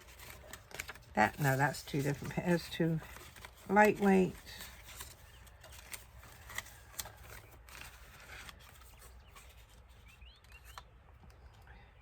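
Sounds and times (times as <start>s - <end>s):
paper rustling: 0.0s - 10.8s.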